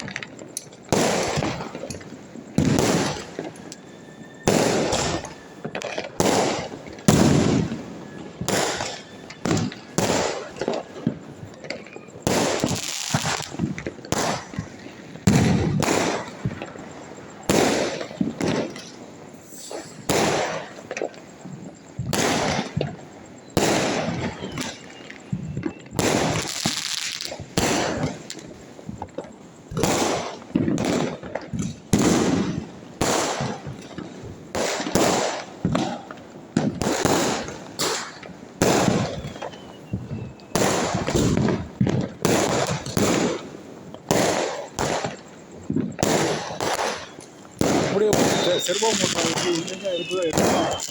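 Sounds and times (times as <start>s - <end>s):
firecracker bangs with echo: 0.0s - 16.8s, 17.4s - 29.0s, 29.6s - 50.9s.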